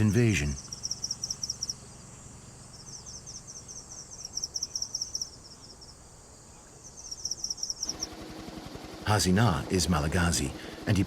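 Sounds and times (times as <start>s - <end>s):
faint steady background: 0.0s - 11.0s
insects chirping: 0.0s - 11.0s.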